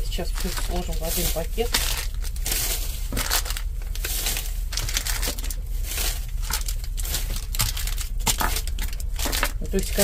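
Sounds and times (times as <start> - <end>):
plastic bag and wrappers crinkling: 0.0 - 10.0.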